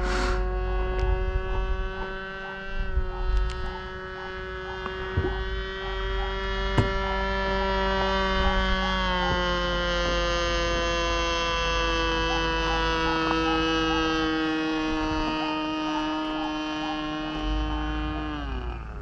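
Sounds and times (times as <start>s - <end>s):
model airplane engine humming: 0.0s - 19.0s.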